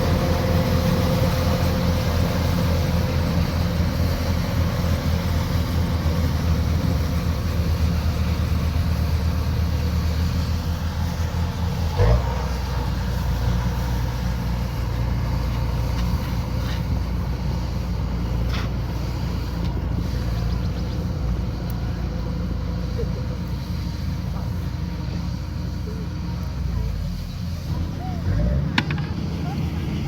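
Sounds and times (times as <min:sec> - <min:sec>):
combine harvester droning: 0:00.0 - 0:30.0.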